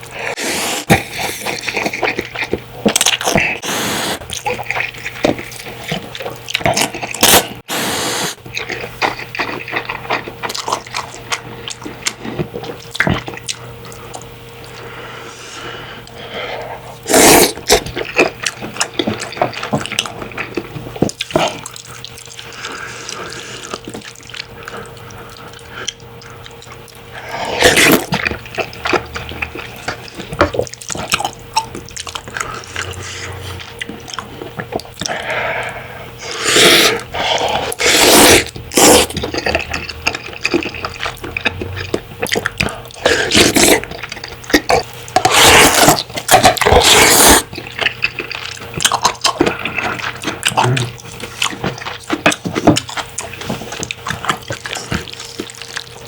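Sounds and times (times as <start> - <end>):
slurping noodles: 0.0 - 2.3, 2.9 - 10.0, 14.7 - 26.3, 27.1 - 31.3, 31.9 - 55.8
wet chewing: 0.0 - 15.1, 16.0 - 56.0.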